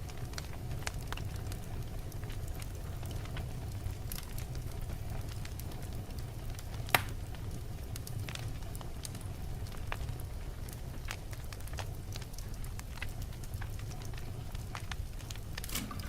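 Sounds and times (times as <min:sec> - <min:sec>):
low rumble of flames: 0:00.0 - 0:16.0
wood fire crackles: 0:00.0 - 0:16.0.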